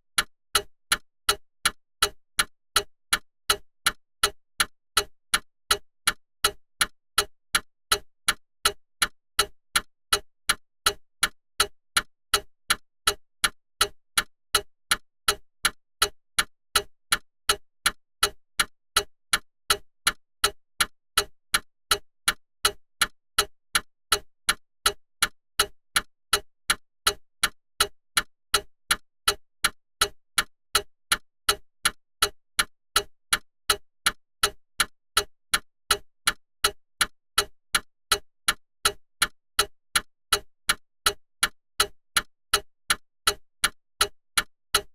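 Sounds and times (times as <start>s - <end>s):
clock ticking: 0.1s - 44.9s.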